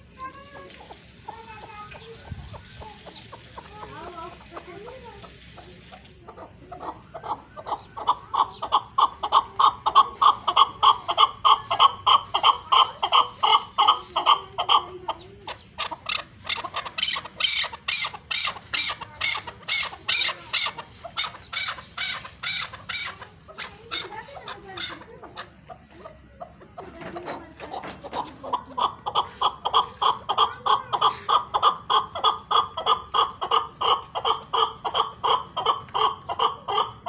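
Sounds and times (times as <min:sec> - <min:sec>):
partridge chuck calls: 0:00.0 - 0:37.0.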